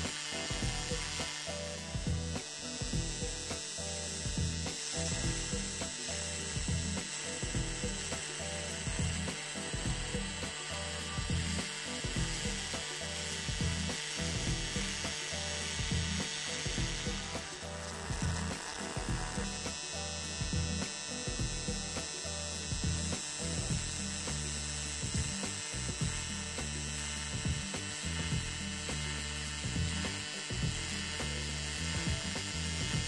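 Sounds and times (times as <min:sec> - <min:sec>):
welding arc buzzing and crackling: 0:00.0 - 0:33.0.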